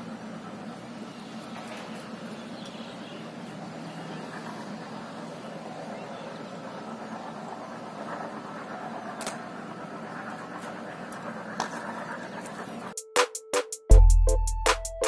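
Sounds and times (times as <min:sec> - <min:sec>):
low engine drone: 0:00.0 - 0:13.1.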